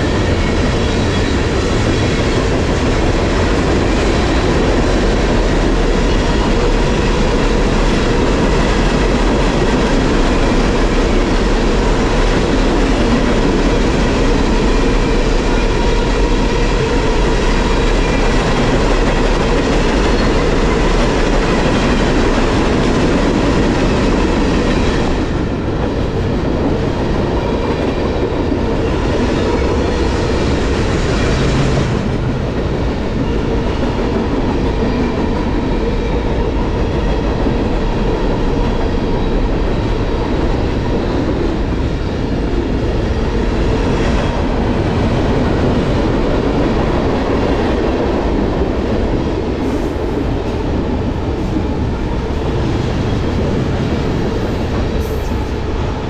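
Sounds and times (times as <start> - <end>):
steel train wheels on rails: 0.0 - 56.0.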